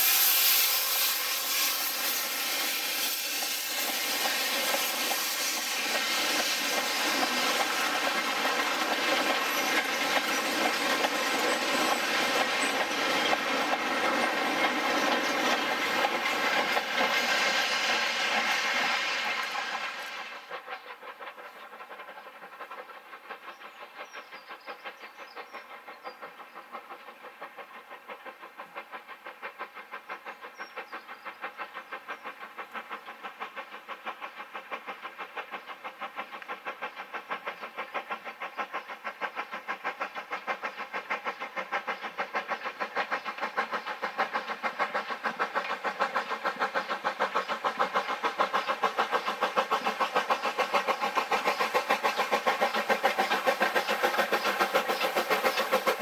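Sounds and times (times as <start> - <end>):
steam locomotive exhaust beating: 0.0 - 56.0.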